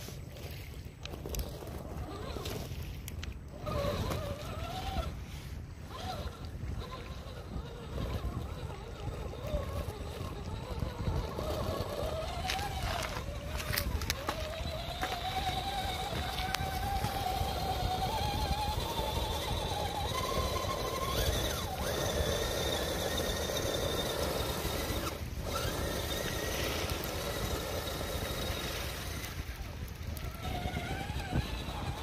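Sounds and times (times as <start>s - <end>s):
small electric motor whining: 0.0s - 32.0s.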